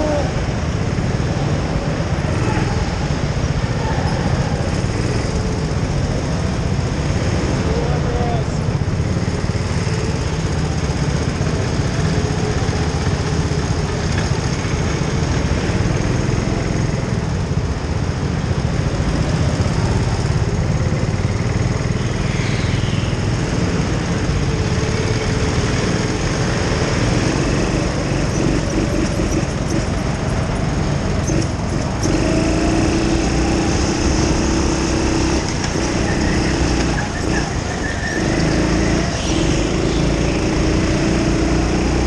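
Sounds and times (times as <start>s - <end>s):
go-kart motor running: 0.0s - 42.0s.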